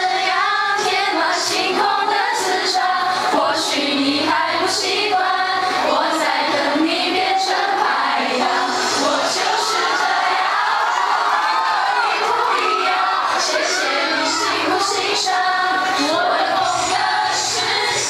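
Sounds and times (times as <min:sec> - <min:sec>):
girls singing together: 0:00.0 - 0:18.0.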